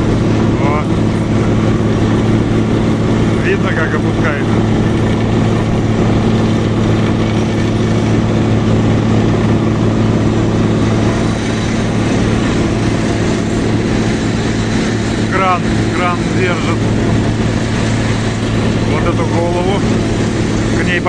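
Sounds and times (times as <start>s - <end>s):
vibratory pile driver humming: 0.0s - 21.0s.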